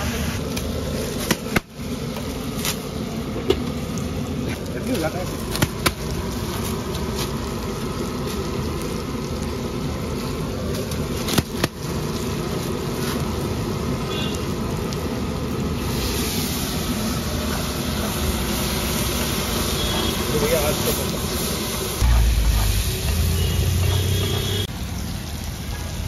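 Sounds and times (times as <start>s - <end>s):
food sizzling on a griddle: 0.0s - 26.0s
low traffic rumble: 0.0s - 26.0s.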